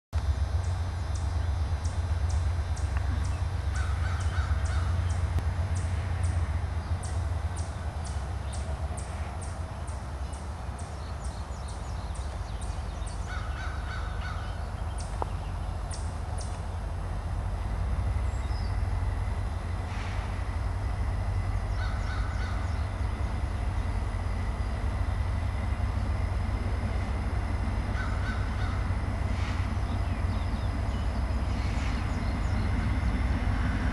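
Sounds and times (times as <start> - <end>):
distant freight train rumble: 0.2 - 33.9
birds chirping: 0.6 - 33.9.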